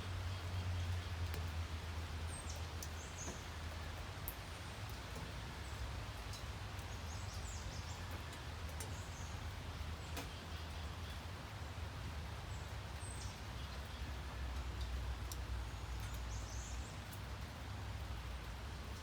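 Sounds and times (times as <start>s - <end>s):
rain falling: 0.0s - 19.0s
drips ticking: 0.1s - 19.0s.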